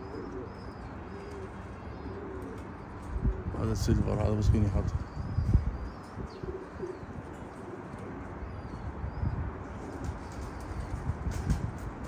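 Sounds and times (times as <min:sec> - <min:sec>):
small birds chirping: 0:00.0 - 0:11.6
pigeons cooing: 0:00.0 - 0:12.0.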